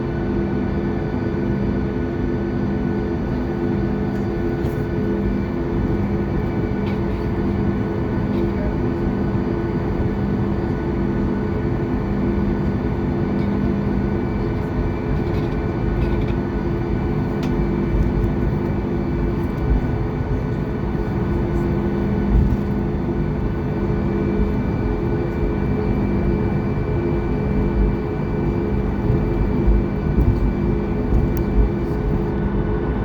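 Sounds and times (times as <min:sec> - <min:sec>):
airplane cabin engine noise: 0:00.0 - 0:33.0.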